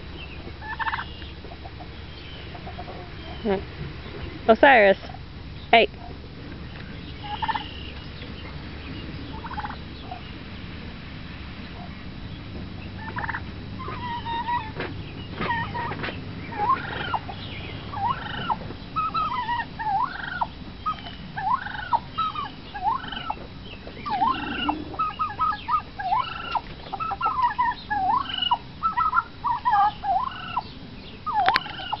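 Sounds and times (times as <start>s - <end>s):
turkeys calling: 0.0s - 10.7s, 11.6s - 32.0s.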